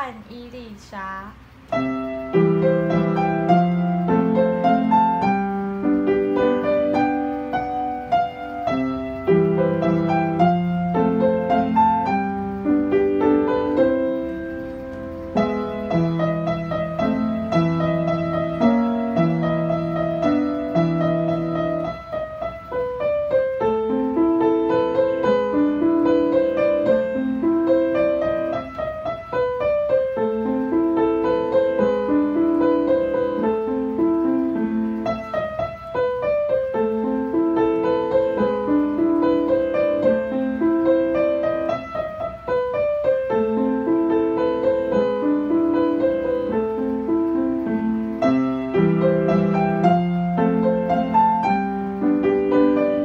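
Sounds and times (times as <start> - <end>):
upright piano playing: 0.0 - 53.0.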